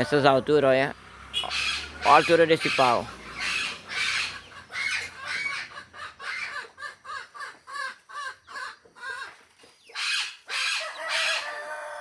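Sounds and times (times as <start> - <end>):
chicken clucking: 1.4 - 12.0.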